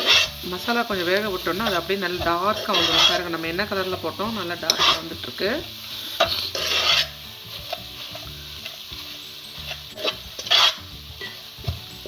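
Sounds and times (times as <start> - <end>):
food sizzling: 0.0 - 12.0
spoon scraping a pan: 0.0 - 12.0.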